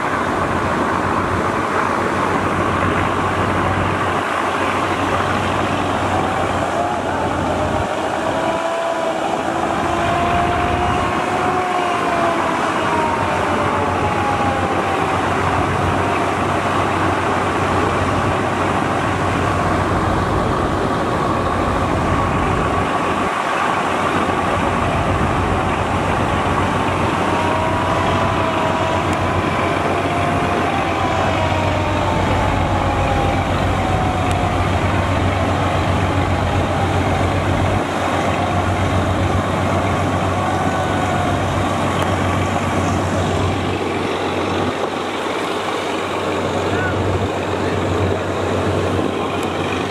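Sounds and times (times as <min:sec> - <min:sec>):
boat engines droning: 0:00.0 - 0:49.9
churned water rushing: 0:00.0 - 0:49.9.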